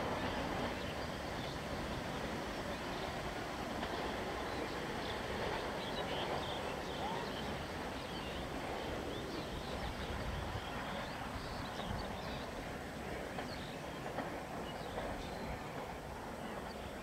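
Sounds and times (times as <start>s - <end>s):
train wheels rattling on rails: 0.0s - 17.0s.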